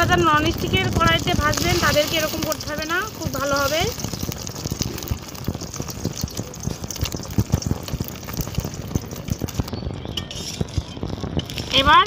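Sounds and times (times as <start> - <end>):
egg sizzling in hot oil: 0.0 - 12.0.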